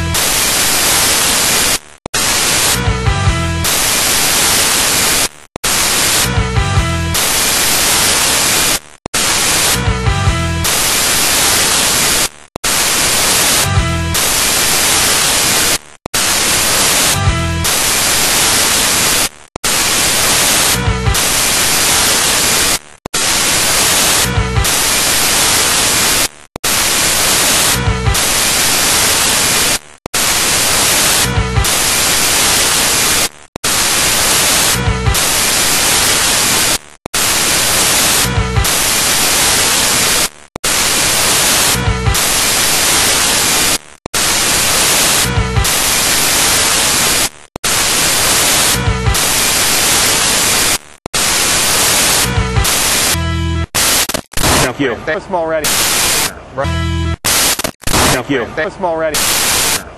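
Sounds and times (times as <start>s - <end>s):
loud static hiss: 0.0s - 56.4s, 57.2s - 59.9s.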